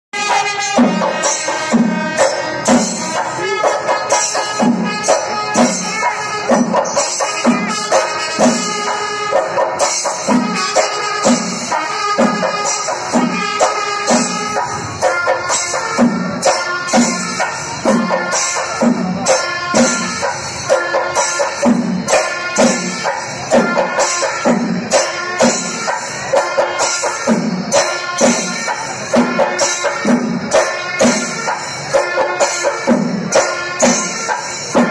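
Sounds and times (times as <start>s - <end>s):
drums beating: 0.2s - 34.9s
jingling cymbals: 0.2s - 34.9s.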